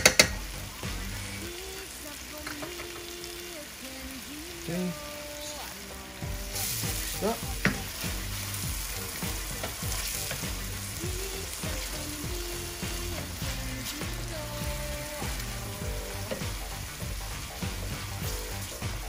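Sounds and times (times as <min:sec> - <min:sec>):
sauce sizzling in a pan: 0:00.0 - 0:19.0.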